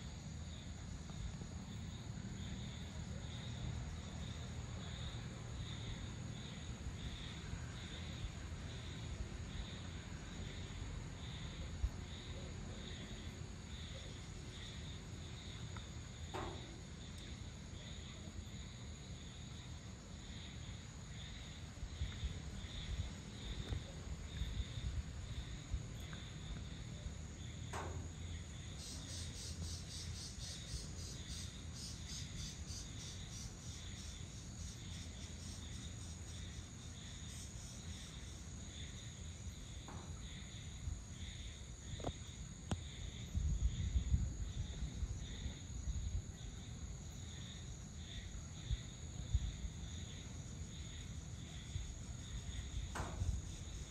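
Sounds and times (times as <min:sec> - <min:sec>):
fast high rattling insect call: 0:00.0 - 0:53.9
insects trilling: 0:00.0 - 0:53.9
pulsing cricket chirp: 0:00.0 - 0:53.9.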